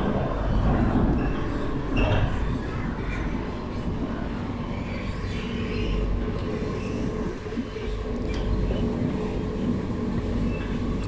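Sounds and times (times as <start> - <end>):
train rumble from inside carriage: 0.0 - 11.0.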